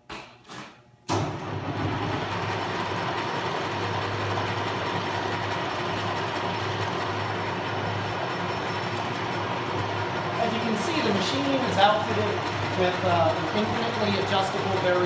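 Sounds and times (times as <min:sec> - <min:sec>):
lathe motor humming: 0:01.5 - 0:15.0.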